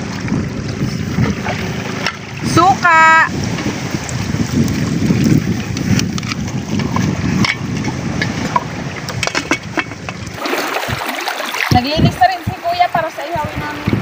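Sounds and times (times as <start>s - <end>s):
wind across microphone: 0.0s - 14.0s.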